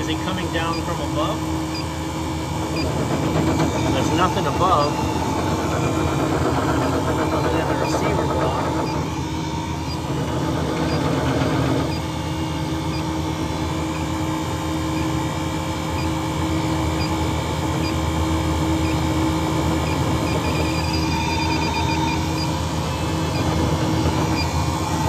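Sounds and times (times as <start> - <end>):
refrigeration system humming: 0.0 - 25.0.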